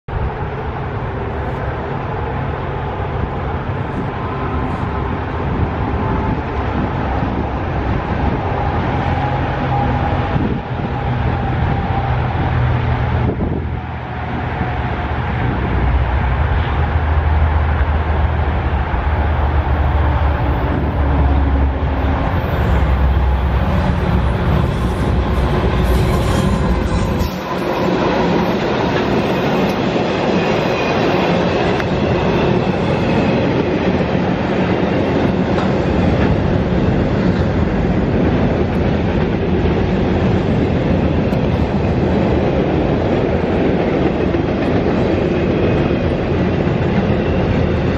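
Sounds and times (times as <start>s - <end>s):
locomotive diesel engines rumbling: 0.1s - 47.9s
road traffic noise: 0.1s - 47.9s.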